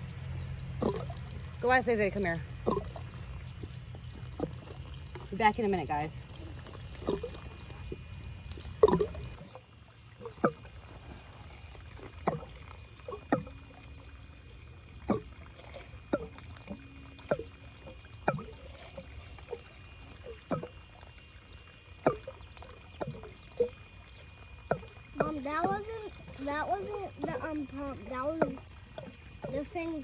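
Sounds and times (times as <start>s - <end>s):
low steady hum: 0.0s - 30.0s
water dripping into water: 0.0s - 30.0s.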